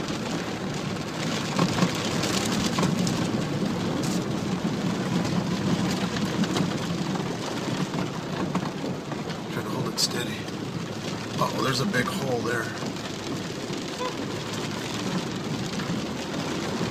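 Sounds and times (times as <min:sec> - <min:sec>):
floodwater washing against tyres: 0:00.0 - 0:16.9
rain on a vehicle roof: 0:00.0 - 0:16.9.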